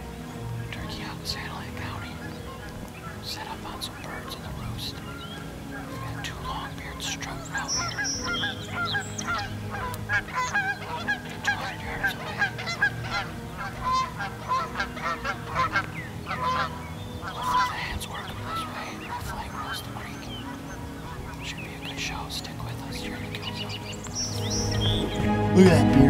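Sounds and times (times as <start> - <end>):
geese honking: 0.0 - 25.6.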